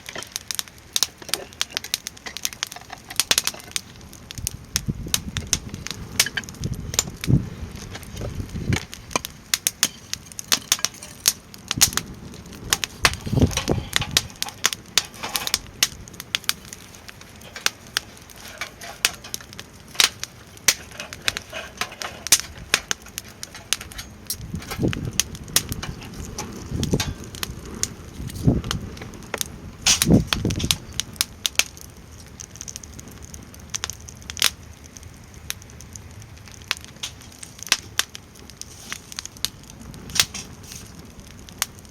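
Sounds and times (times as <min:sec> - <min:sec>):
wood fire crackling and popping: 0:00.0 - 0:41.9
wind rumble on microphone: 0:03.2 - 0:10.5, 0:11.4 - 0:18.6, 0:19.2 - 0:41.9.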